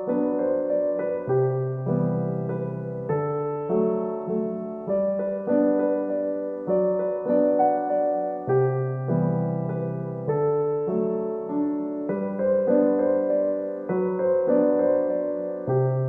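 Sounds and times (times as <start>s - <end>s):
gentle piano tune: 0.0s - 16.0s.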